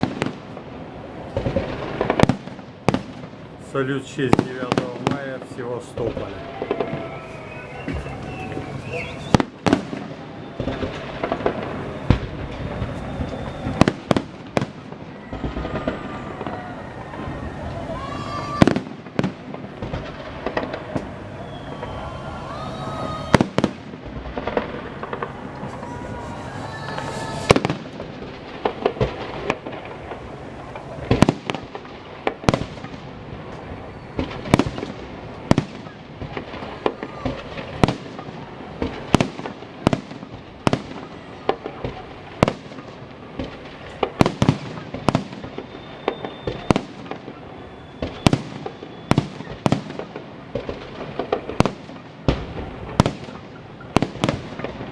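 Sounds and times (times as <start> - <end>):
fireworks bursting with sharp bangs: 0.0 - 54.9.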